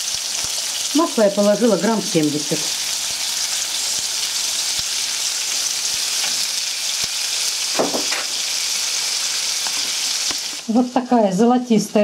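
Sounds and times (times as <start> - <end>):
butter and oil sizzling in pans: 0.0 - 12.0.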